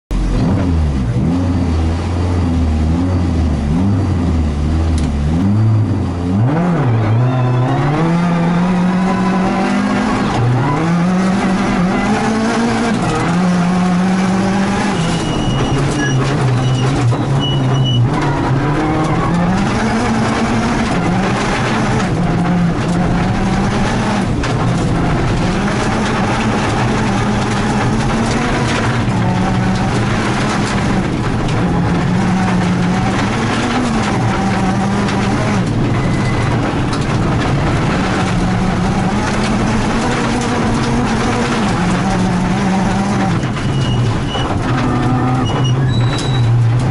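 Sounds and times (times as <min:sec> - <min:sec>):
car engine revving: 0:00.1 - 0:46.9
gravel and road noise: 0:00.1 - 0:46.9.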